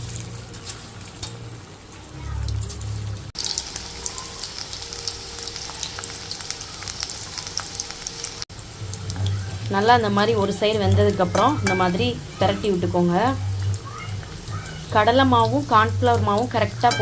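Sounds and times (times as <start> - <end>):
batter slices deep-frying in oil: 0.0 - 17.0.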